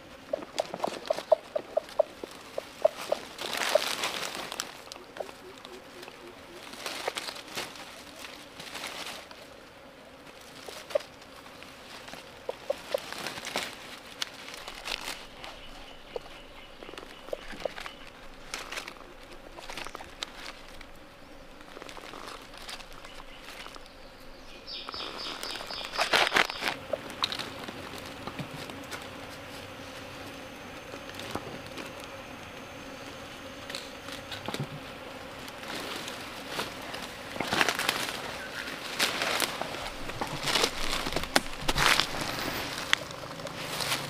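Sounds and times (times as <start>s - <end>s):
dry leaves and twigs rustling: 0.0s - 44.0s
insects buzzing: 0.0s - 44.0s.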